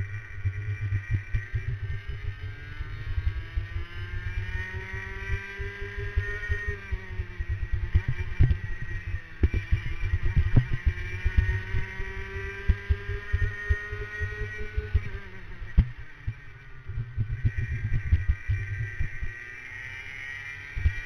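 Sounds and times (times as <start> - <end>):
kart engine revving: 0.0 - 21.0.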